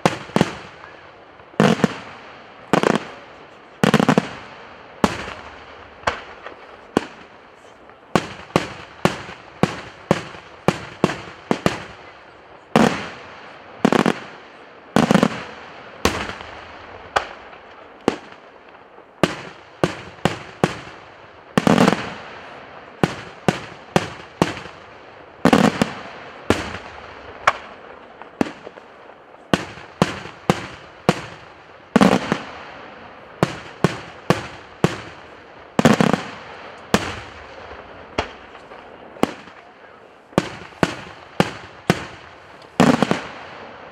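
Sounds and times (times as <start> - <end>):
fireworks bursts and bangs: 0.0 - 43.9.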